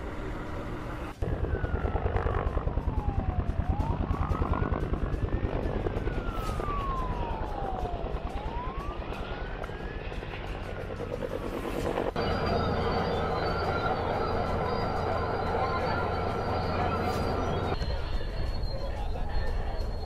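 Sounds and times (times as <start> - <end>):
helicopter rotor chopping: 0.0 - 20.0
siren wailing: 0.0 - 20.0.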